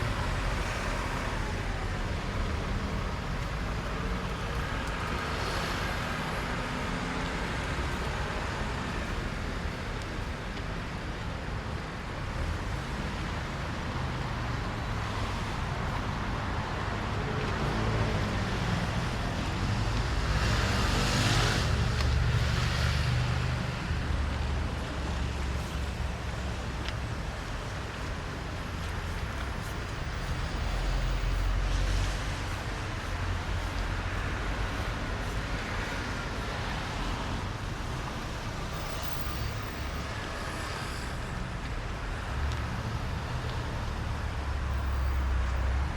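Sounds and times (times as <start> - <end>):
road traffic rumble: 0.0 - 45.9
tyres hissing on wet road: 0.0 - 45.9.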